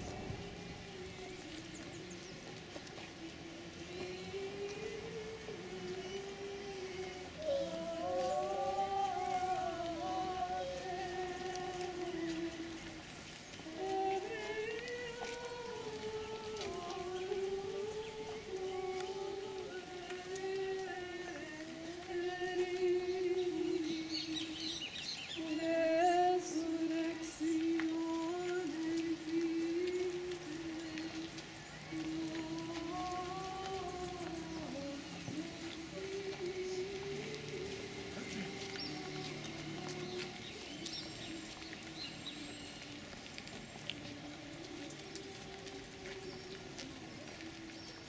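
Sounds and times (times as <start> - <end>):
footsteps on cobblestones: 0.0 - 48.0
women singing a hymn: 0.0 - 48.0.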